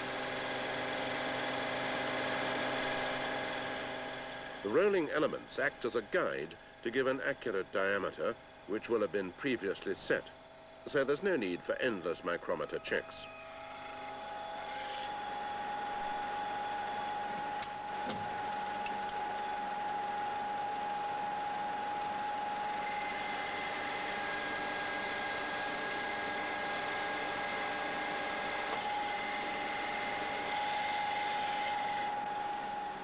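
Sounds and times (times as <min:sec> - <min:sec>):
lathe machining whine: 0:00.0 - 0:33.0.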